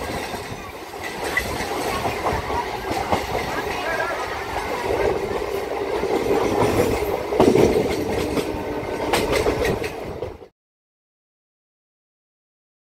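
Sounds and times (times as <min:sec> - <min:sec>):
wheels knocking over rail joints: 0:00.0 - 0:10.4
electric train rumble: 0:00.0 - 0:10.5.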